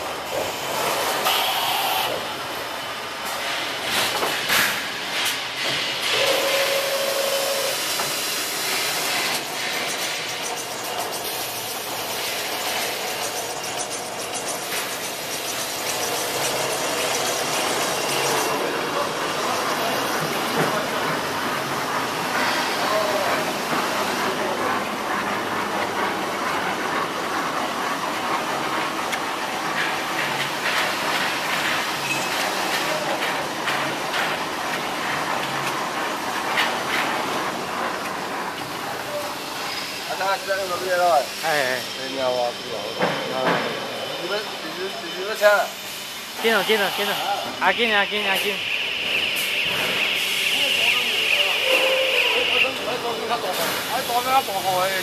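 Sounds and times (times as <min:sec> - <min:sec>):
steady machine noise: 0:00.0 - 0:55.0.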